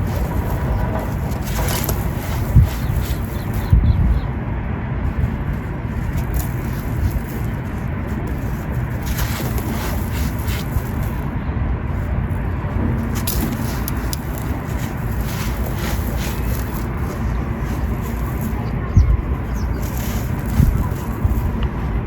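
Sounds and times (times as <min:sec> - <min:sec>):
sand-cement lumps crunching: 0:00.0 - 0:04.3, 0:05.1 - 0:22.0
low rumble: 0:00.0 - 0:22.0.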